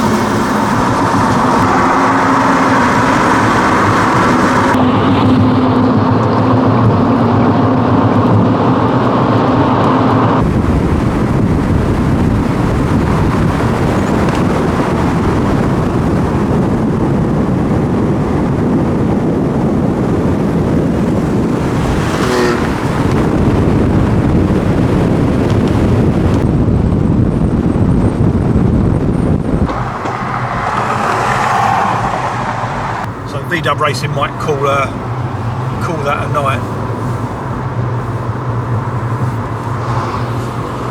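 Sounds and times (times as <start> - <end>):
car engine hum: 0.0 - 40.9
engine and road noise rush: 0.0 - 40.9.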